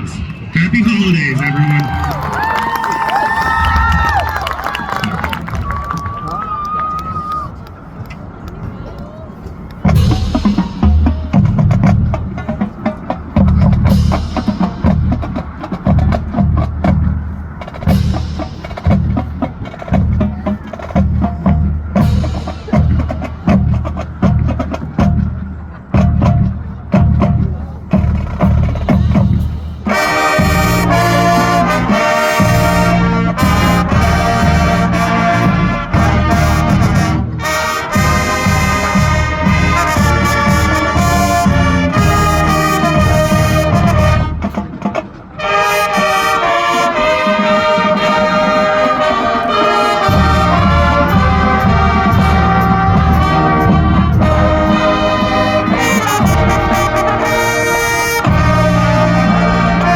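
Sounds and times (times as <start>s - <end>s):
marching band brass and drums: 0.0s - 59.9s.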